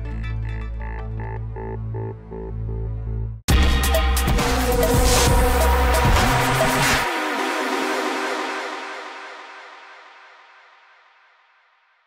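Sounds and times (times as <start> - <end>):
pulsing synth pattern: 0.0 - 9.7
electronic music with deep bass: 0.0 - 10.5.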